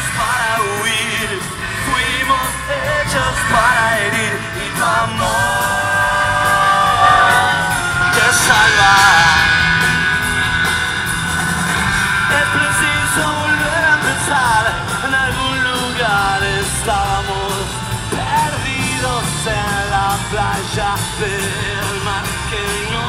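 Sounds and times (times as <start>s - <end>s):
person singing: 0.0s - 10.0s, 12.2s - 23.0s
electric guitar: 0.0s - 23.0s.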